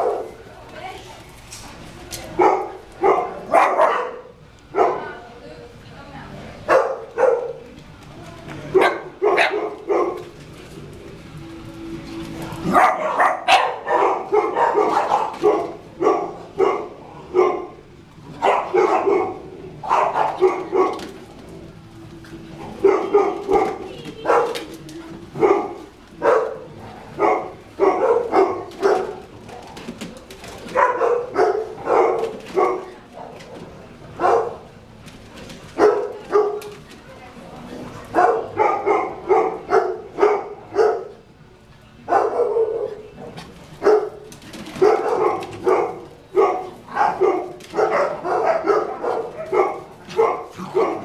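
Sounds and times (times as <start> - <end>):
dogs play-barking: 0.0 - 0.5, 2.1 - 5.3, 6.6 - 7.9, 8.6 - 41.4, 42.0 - 51.0.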